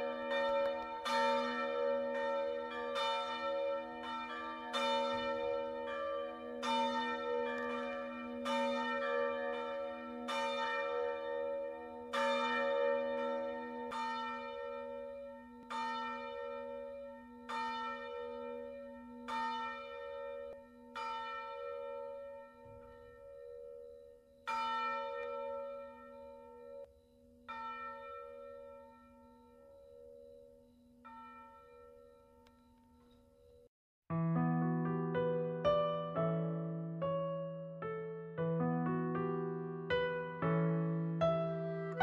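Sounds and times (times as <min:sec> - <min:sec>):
bells ringing: 0:00.0 - 0:26.9, 0:27.5 - 0:33.6, 0:41.3 - 0:42.0.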